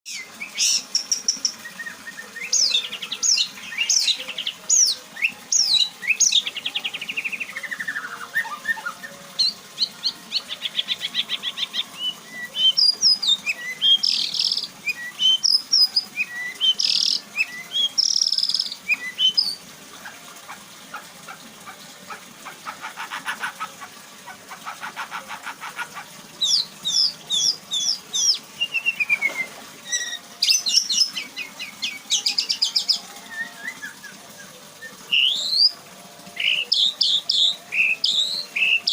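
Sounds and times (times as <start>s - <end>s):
songbird singing whistles and trills: 0.1s - 19.6s, 26.4s - 35.8s, 36.4s - 38.9s.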